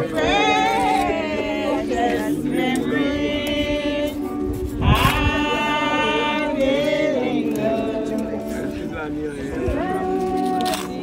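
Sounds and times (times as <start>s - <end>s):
voices singing slowly: 0.0s - 11.0s.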